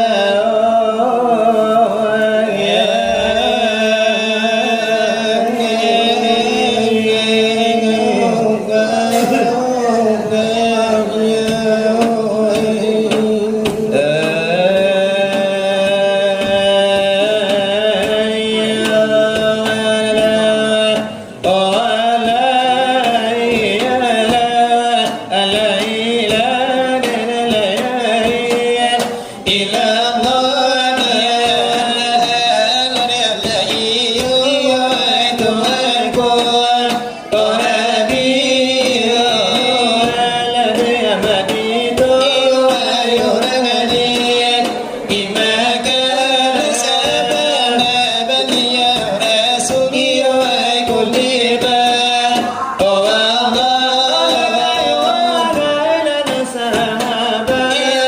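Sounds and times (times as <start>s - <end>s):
person chanting devotional melody: 0.0s - 58.0s
light beat on brass tray: 2.2s - 58.0s.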